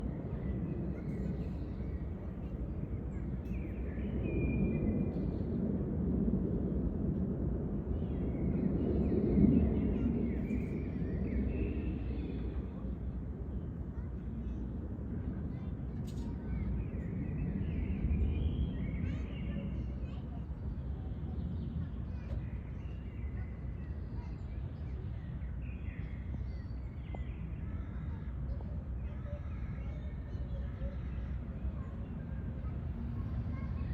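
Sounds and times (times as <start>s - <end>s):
low rumble of wind: 0.0s - 33.9s.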